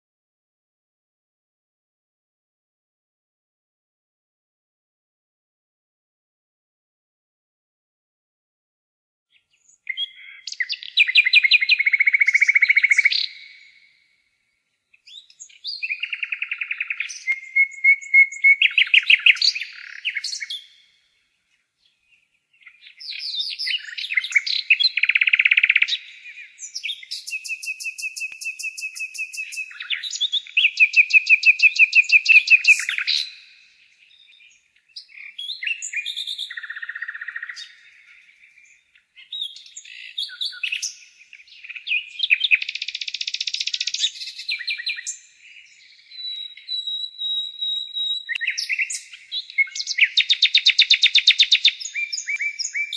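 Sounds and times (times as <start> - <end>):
nightingale singing: 9.3 - 52.9.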